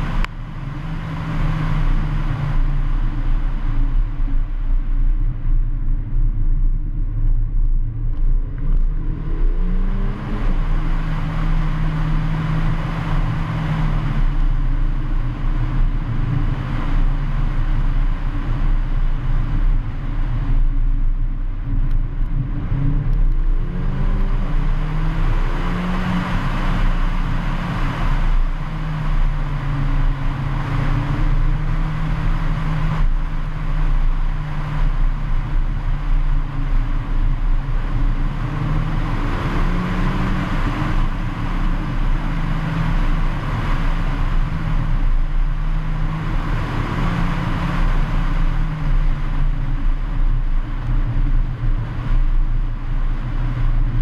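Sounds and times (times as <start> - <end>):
faint car engine: 0.0 - 54.0
road surface rumble: 0.0 - 54.0.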